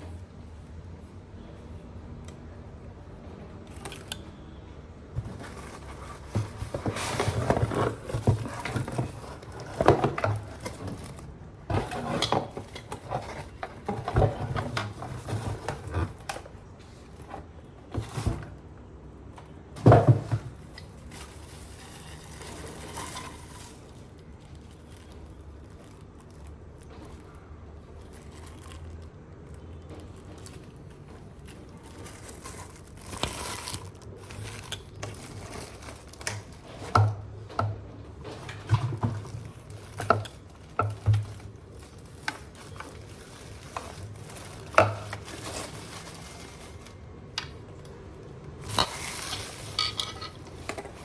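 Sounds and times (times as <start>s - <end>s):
hard objects clattering: 5.0s - 18.8s, 19.6s - 51.0s.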